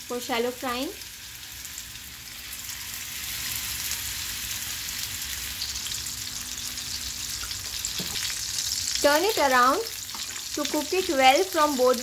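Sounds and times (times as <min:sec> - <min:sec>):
patties sizzling in hot oil: 0:00.0 - 0:12.0.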